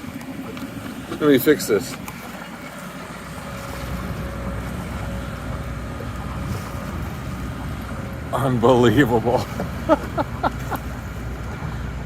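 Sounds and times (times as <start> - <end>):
boat engine running: 0.0 - 12.0
water noise: 0.0 - 12.0.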